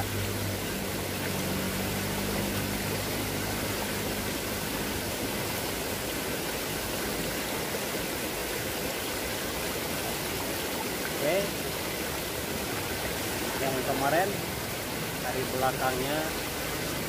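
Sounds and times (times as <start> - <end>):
stream water running over rocks: 0.0 - 17.0.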